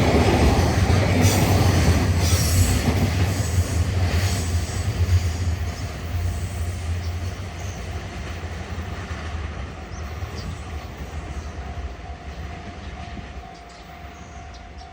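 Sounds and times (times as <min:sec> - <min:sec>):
freight train rumbling past: 0:00.0 - 0:14.9.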